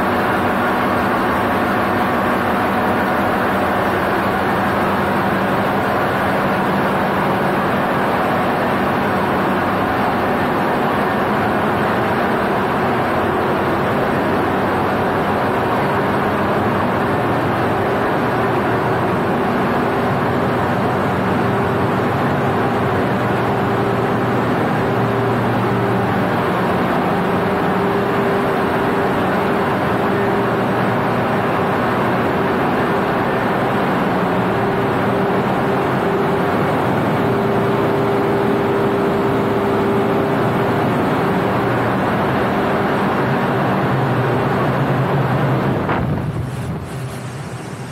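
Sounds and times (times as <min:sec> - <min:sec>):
diesel engines droning: 0:00.0 - 0:47.9.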